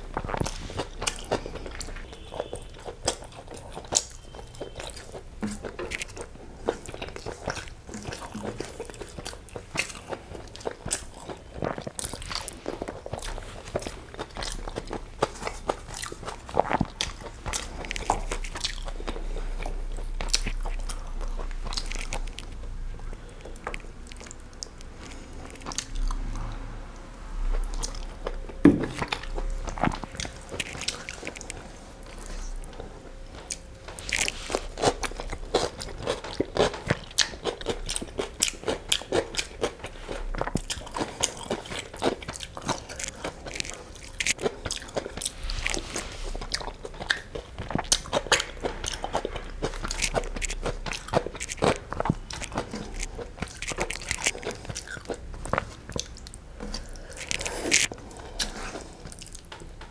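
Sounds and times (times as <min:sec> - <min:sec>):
person chewing with wet smacks: 0:00.0 - 0:59.9.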